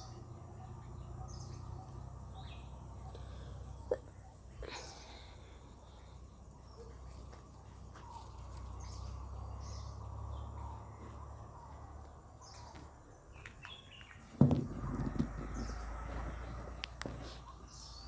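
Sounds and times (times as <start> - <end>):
faint bird chirps: 0.0 - 14.4, 15.4 - 18.0.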